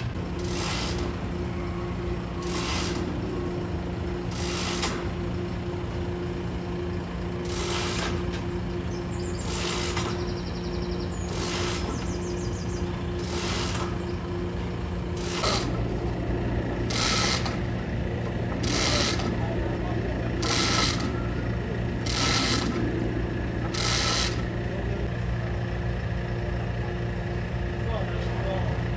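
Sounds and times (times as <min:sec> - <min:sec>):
winch motor hum: 0:00.0 - 0:28.9.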